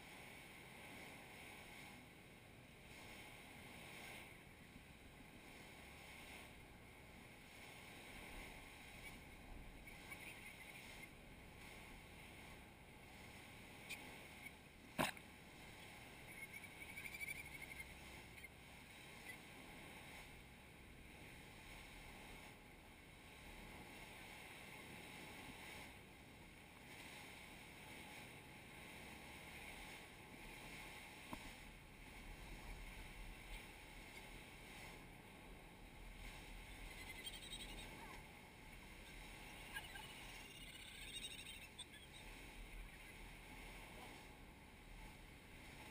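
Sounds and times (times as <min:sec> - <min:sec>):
faint surf: 0:00.0 - 0:45.9.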